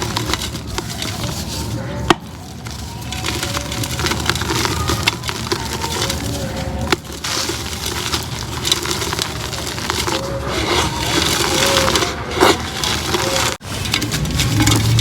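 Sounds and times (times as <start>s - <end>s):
concrete crunching and crackling: 0.0s - 15.0s.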